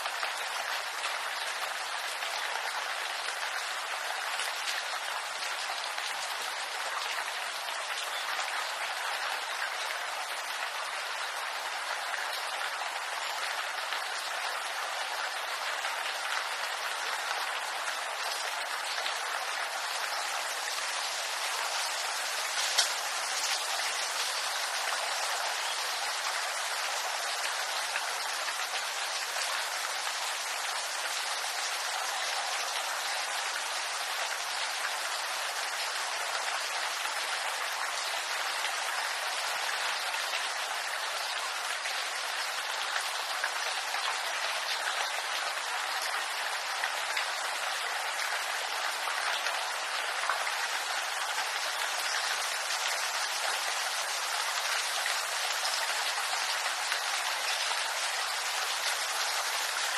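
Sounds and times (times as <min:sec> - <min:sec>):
rain on bamboo leaves: 0:00.0 - 0:59.9.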